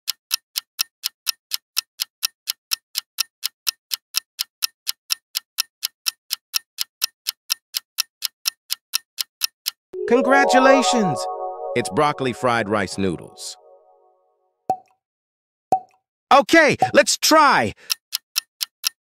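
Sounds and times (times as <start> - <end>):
countdown timer clock ticks: 0.0 - 13.8, 16.8 - 19.0.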